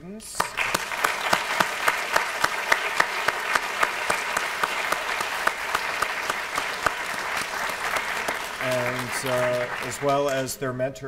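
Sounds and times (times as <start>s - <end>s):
sharp claps of nearby clapper: 0.4s - 10.5s
audience applauding: 0.4s - 10.6s.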